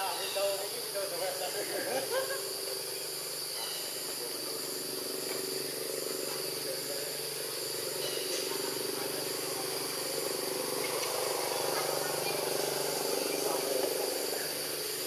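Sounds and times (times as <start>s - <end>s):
high insect chirp pulsing: 0.0s - 15.0s
low insect hum: 0.0s - 15.0s.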